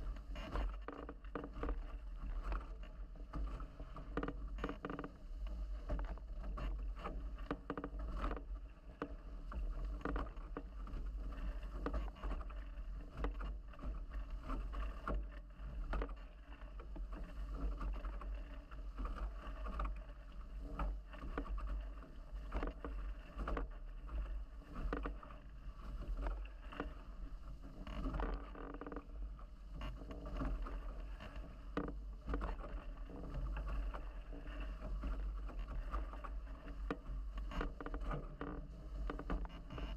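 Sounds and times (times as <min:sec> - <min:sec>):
constant low rumble: 0:00.0 - 0:39.9.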